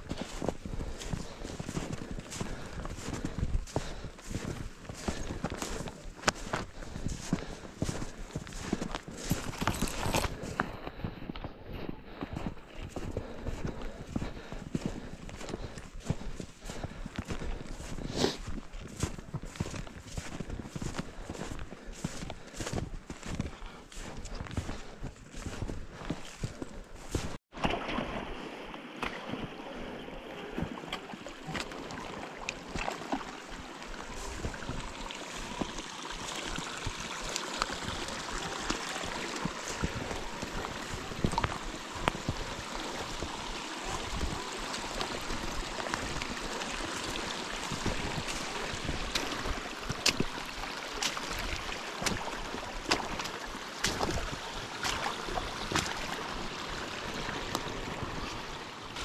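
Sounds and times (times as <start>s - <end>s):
creek water rushing: 0.0s - 10.6s, 12.6s - 59.0s
footsteps in snow and brush: 0.0s - 27.4s, 31.4s - 56.1s.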